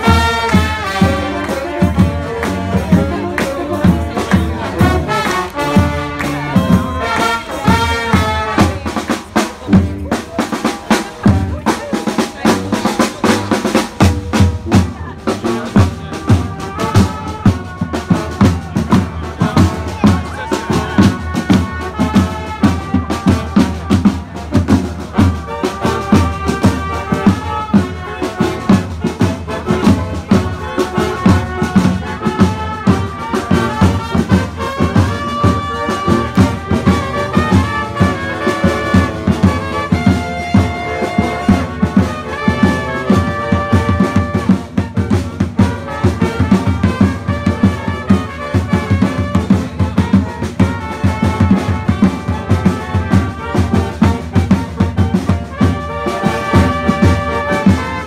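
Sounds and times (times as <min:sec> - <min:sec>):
brass band playing: 0:00.0 - 0:58.0
steady drum beat: 0:00.0 - 0:58.0.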